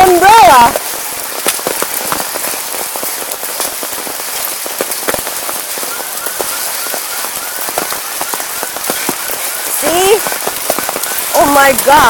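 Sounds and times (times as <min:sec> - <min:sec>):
hail hissing down: 0:00.0 - 0:12.0
hailstones cracking: 0:00.0 - 0:12.0.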